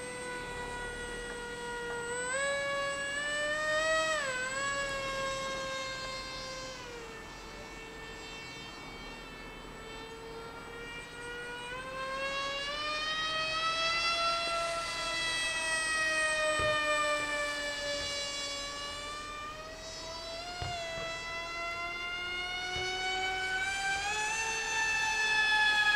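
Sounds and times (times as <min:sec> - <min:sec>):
electric motor and propeller whining: 0:00.0 - 0:25.9.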